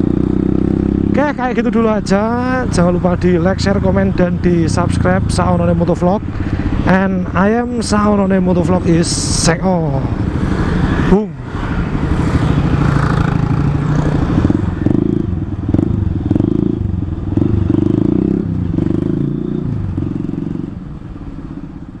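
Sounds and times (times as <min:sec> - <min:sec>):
motorcycle engine surging: 0:00.0 - 0:09.3, 0:10.1 - 0:21.8.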